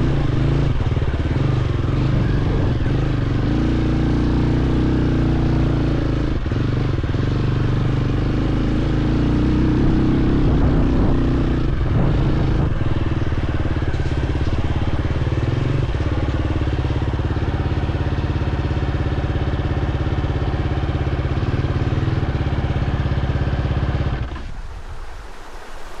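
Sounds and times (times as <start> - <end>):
dirt bike engine running: 0.0 - 24.6.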